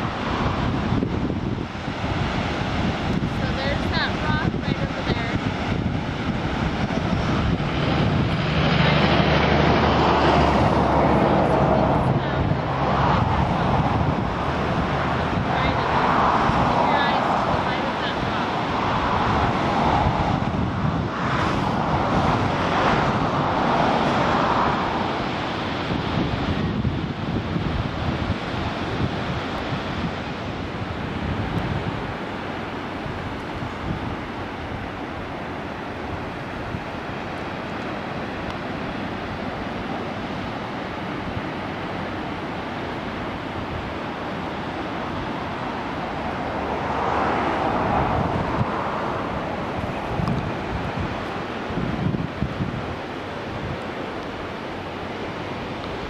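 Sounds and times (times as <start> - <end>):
ocean surf washing in: 0.0 - 56.0
wind buffeting microphone: 0.0 - 56.0.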